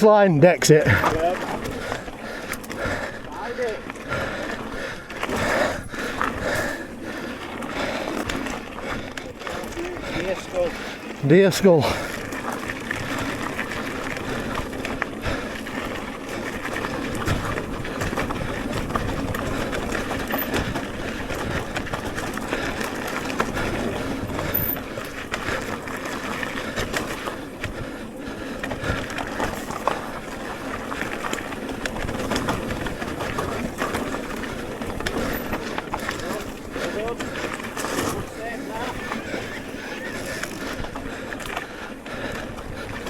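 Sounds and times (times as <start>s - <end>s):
tyre and wind noise: 0.1s - 43.0s
bike rattling and knocking: 0.7s - 43.0s.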